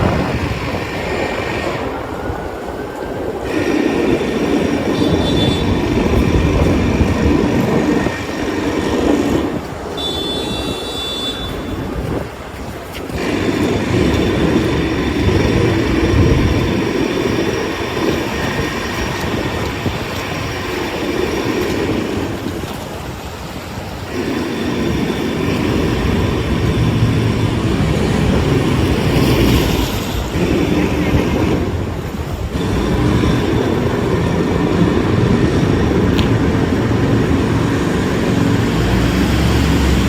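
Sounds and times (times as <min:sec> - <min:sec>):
passing vehicles rumbling: 0:00.0 - 0:40.0.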